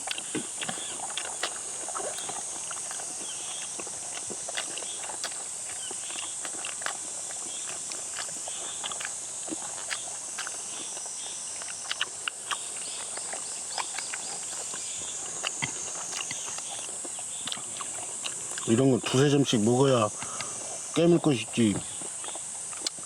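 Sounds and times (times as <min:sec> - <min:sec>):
chewing and mouth smacks: 0:00.0 - 0:23.0
summer insects droning: 0:00.0 - 0:23.0.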